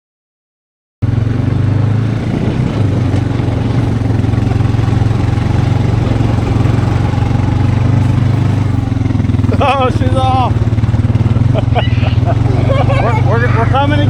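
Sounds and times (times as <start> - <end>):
engine running steadily: 1.0 - 14.0.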